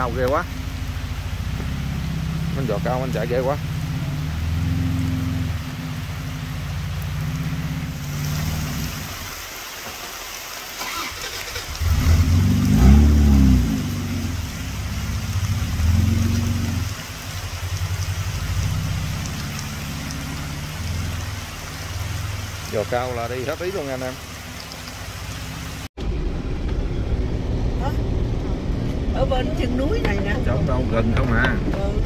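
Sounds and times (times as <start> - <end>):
off-road vehicle engine labouring: 0.0 - 9.3, 10.8 - 32.0.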